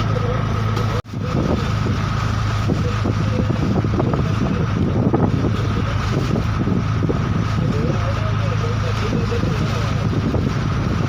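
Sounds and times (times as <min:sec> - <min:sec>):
engine drone: 0:00.0 - 0:11.0
wind buffeting microphone: 0:00.0 - 0:11.0.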